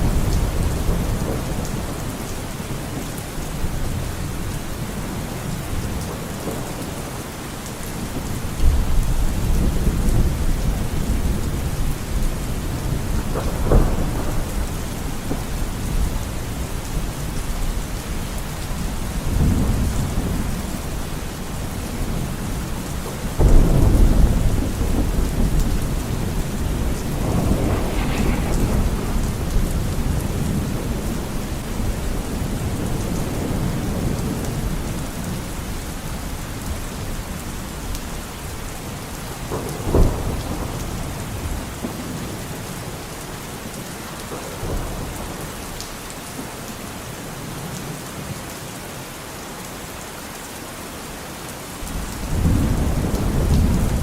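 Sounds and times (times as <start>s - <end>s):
thunder rumbling: 0.0s - 43.1s, 51.8s - 54.0s
rain falling: 0.0s - 54.0s.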